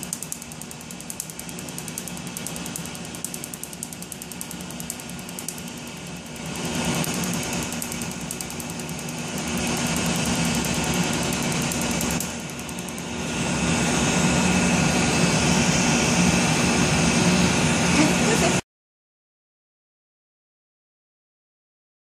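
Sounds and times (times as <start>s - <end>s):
steady machine hum: 0.0s - 18.6s.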